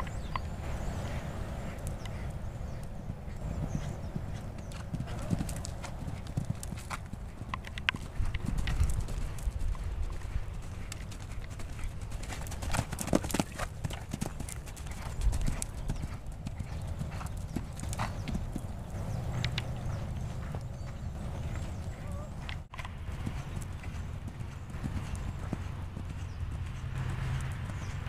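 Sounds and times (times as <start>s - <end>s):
horse hoofbeats on sand: 0.0s - 28.0s.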